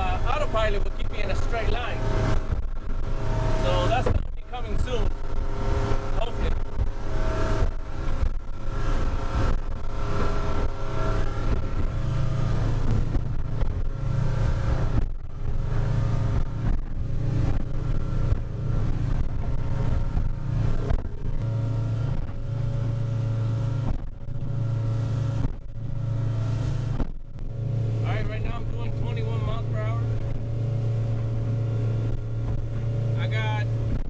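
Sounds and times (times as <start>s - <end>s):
water rushing: 0.0s - 33.9s
boat engine humming: 0.0s - 34.0s
wind: 0.0s - 34.0s.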